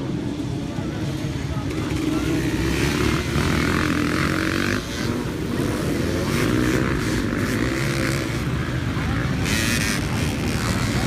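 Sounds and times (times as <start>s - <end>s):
dirt bike engines droning: 0.0s - 11.0s.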